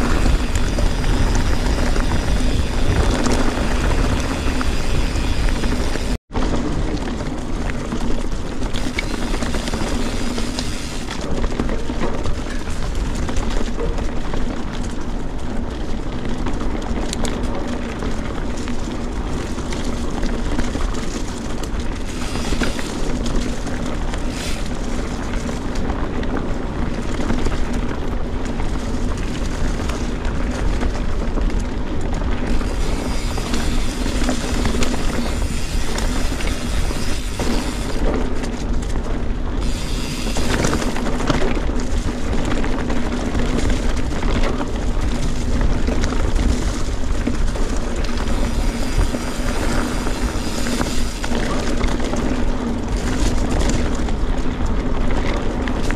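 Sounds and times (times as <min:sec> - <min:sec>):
bike rattling: 0:00.0 - 0:55.9
wind rush on microphone: 0:00.0 - 0:55.9.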